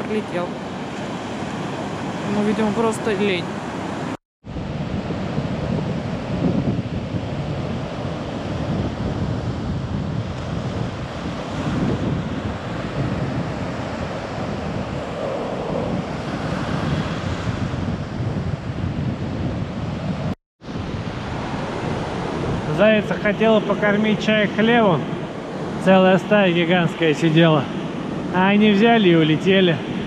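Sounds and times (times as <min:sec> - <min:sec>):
wind buffeting microphone: 0:00.0 - 0:30.0
surf breaking on beach: 0:00.7 - 0:18.7, 0:19.3 - 0:30.0.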